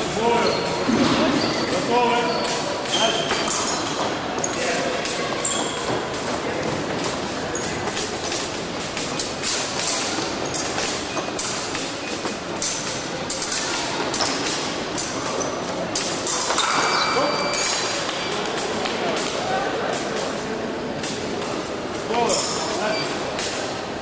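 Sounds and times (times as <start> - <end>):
fencing hall noise: 0.0 - 24.0.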